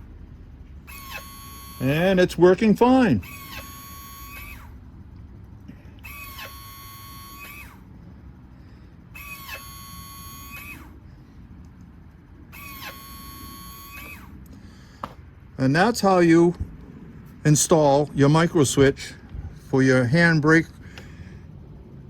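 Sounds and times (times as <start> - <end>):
brake pump whine: 0.0 - 22.0.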